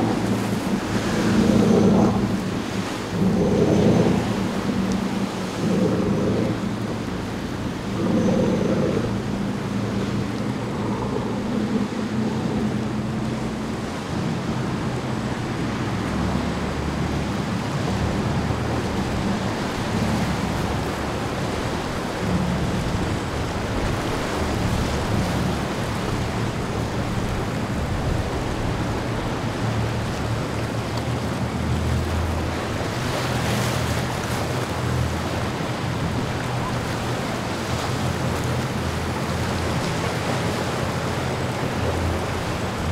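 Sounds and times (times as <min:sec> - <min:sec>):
boat engines humming: 0:00.0 - 0:42.9
surf: 0:00.0 - 0:42.9
wind on microphone: 0:00.0 - 0:42.9.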